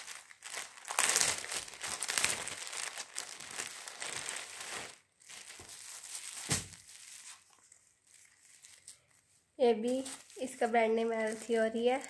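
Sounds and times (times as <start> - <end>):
plastic bag crinkling and rustling: 0.0 - 12.0.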